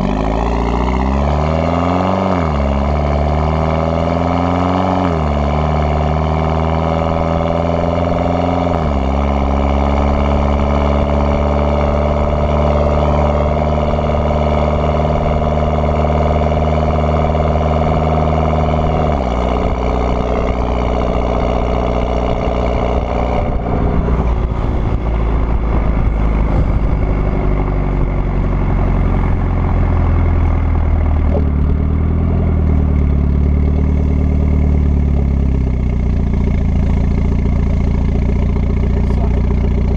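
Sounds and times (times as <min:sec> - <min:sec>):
turbocharged car engine revving: 0:00.0 - 0:39.9.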